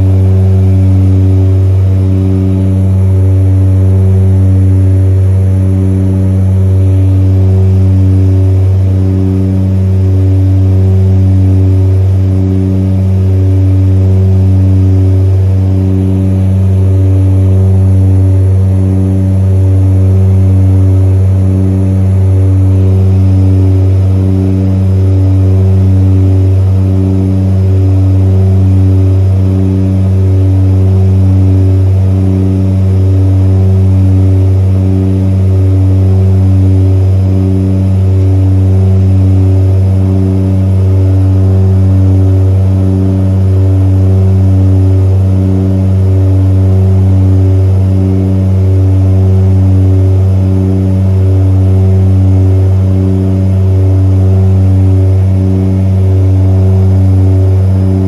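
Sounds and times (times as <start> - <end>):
propeller engine droning: 0.0 - 58.0.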